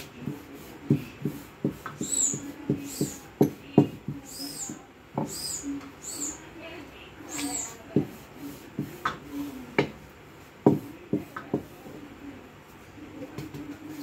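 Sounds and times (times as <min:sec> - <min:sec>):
rolling pin rubbing dough: 0:00.0 - 0:14.0.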